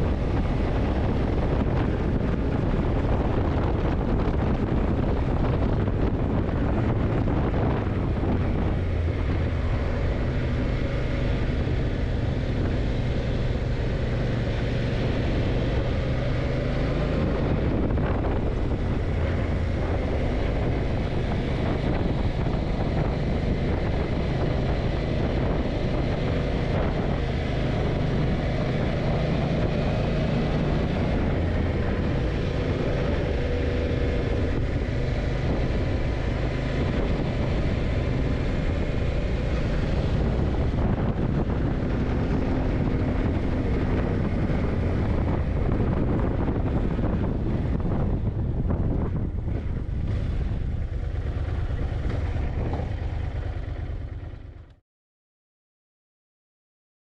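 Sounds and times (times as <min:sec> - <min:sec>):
motorcycle engine running: 0:00.0 - 0:54.8
wind rushing over microphone: 0:00.0 - 0:54.8.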